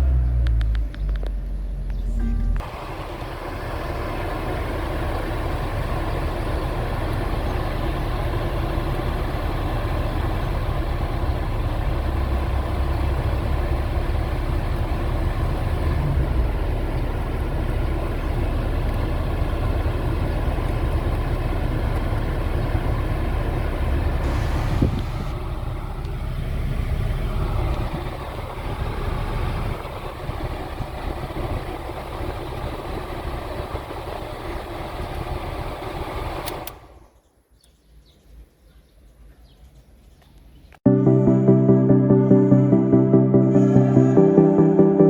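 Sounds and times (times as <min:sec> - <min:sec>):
car engine idling: 0:00.0 - 0:37.1.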